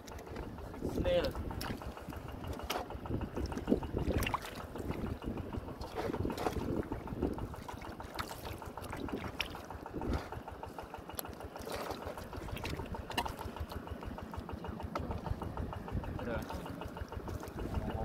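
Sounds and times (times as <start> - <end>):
sloshing in muddy water: 0.0 - 18.0
steady low rumble: 0.0 - 18.0.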